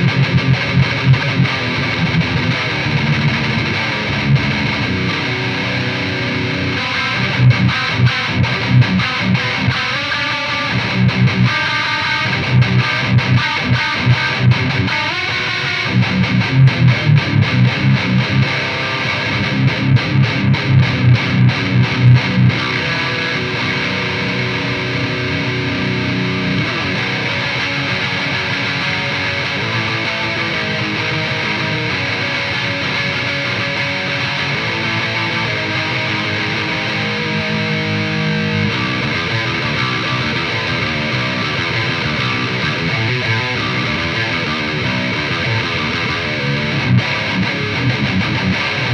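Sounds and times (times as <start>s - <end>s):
distorted electric guitar: 0.0s - 48.9s.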